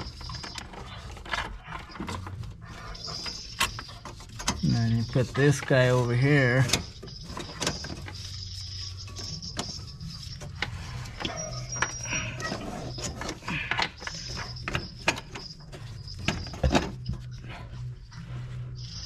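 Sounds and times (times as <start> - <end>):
hands clicking and tapping parts: 0.0 - 17.5.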